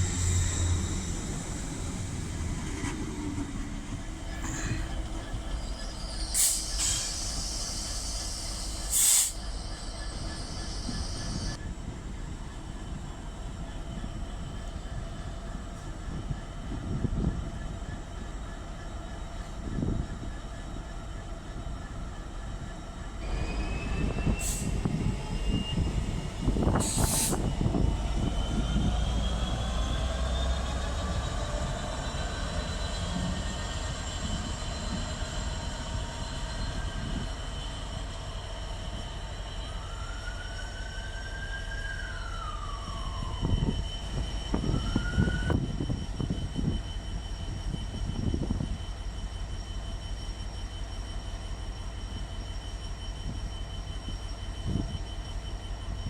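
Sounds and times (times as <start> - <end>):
train running: 0.0 - 56.0.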